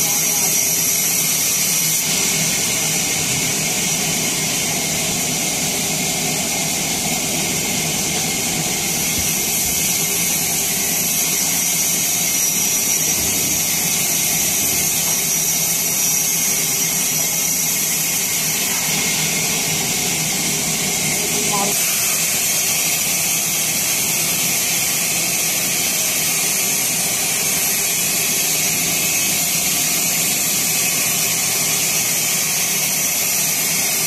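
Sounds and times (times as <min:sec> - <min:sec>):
sawmill saw whining: 0:00.0 - 0:34.0.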